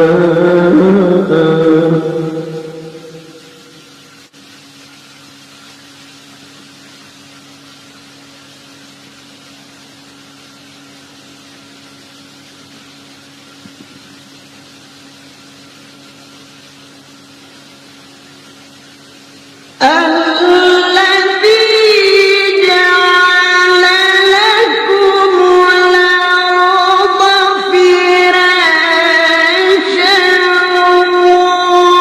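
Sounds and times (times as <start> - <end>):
background hiss: 0.0 - 32.0
low even hum: 0.0 - 32.0.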